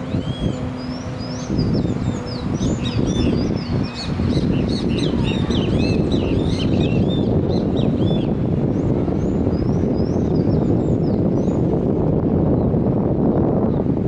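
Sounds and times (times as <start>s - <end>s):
flock of birds chirping: 0.0s - 11.6s
steady low rumble: 0.0s - 14.0s.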